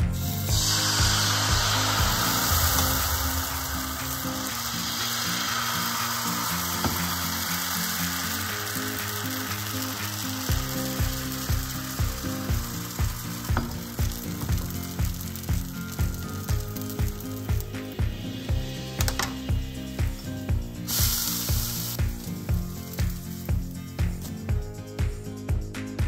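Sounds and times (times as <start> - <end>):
batter sizzling in pan: 0.0 - 25.0
background music: 0.0 - 26.0
thumping beat: 0.0 - 26.0.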